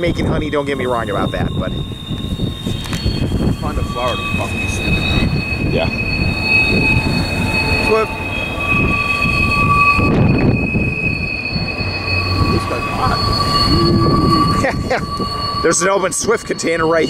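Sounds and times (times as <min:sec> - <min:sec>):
freight train cars rumbling: 0:00.0 - 0:17.0
high-pitched wheel squeals: 0:00.0 - 0:17.0.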